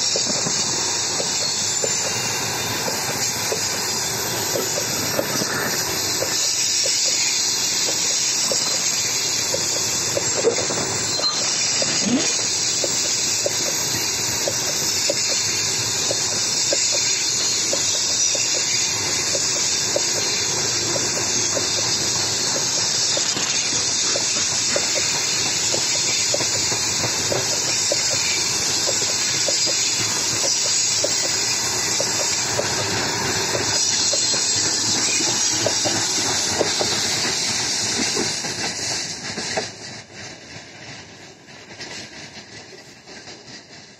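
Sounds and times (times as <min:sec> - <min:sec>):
train wheels rushing on rail: 0:00.0 - 0:43.9.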